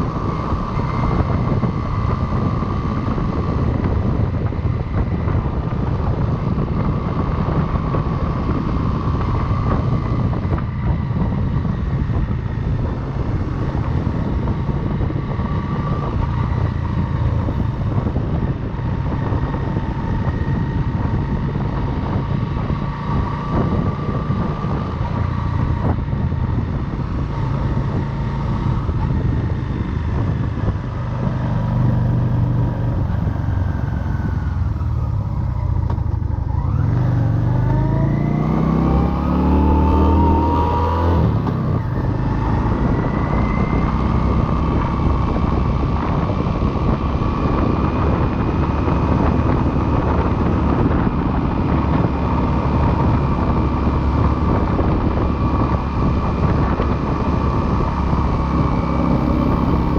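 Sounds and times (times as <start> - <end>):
motorcycle engine running: 0.0 - 59.9
wind rumbling on microphone: 0.0 - 59.9.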